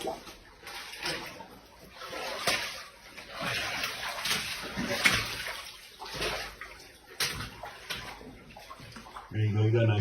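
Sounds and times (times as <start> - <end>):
stream water splashing: 0.0 - 9.3.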